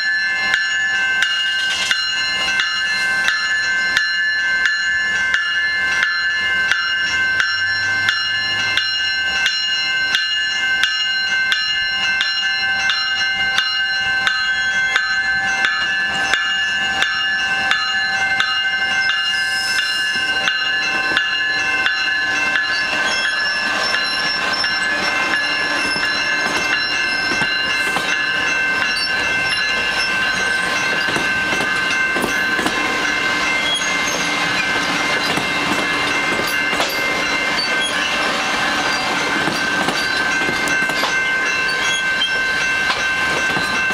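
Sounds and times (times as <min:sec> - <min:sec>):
train bell ringing: 0:00.0 - 0:43.9
train wheels on rails: 0:00.0 - 0:43.9.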